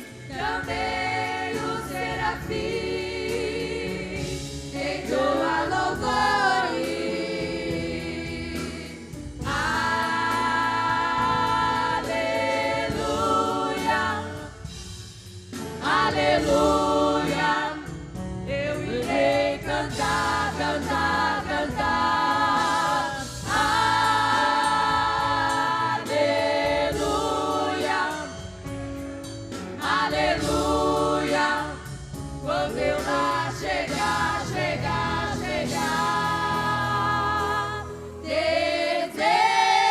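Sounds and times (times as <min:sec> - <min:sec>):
women singing gospel hymn: 0:00.0 - 0:28.7, 0:29.5 - 0:39.9
instrumental backing: 0:00.0 - 0:39.9.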